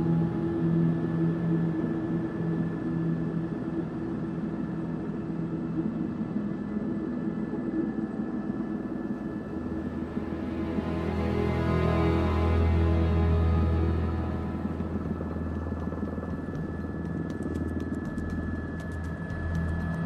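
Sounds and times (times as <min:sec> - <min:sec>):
helicopter rotor and engine rumble: 0:00.0 - 0:20.0.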